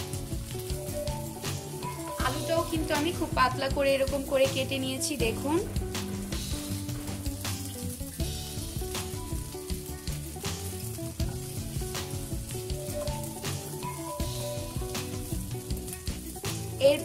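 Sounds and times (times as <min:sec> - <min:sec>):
food sizzling in hot oil: 0:00.0 - 0:17.0
soft background music: 0:00.0 - 0:17.0.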